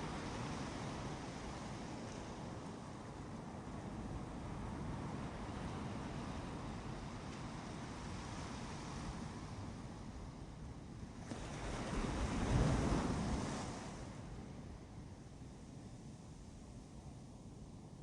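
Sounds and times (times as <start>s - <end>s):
ocean waves on a beach: 0.0s - 18.0s.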